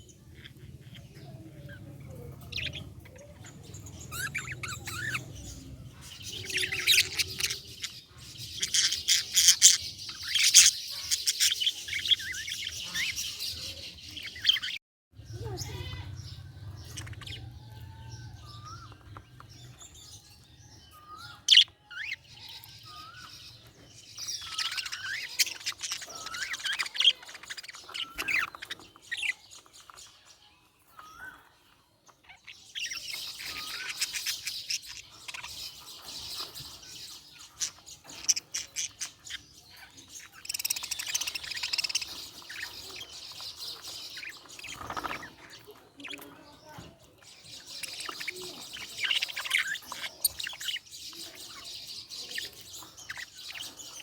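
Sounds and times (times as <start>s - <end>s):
budgerigar chirping and warbling: 2.1s - 23.6s, 24.2s - 30.2s, 32.1s - 54.0s.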